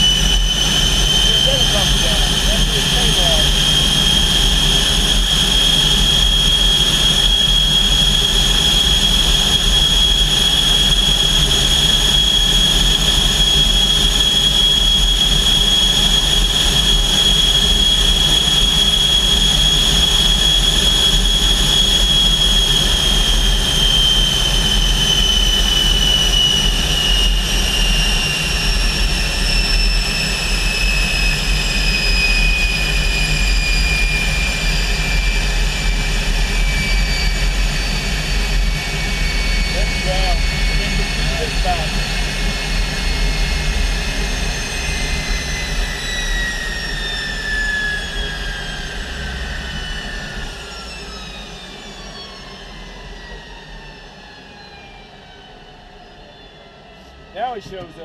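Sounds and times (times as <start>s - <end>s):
jet engine whine and rumble: 0.0s - 58.0s.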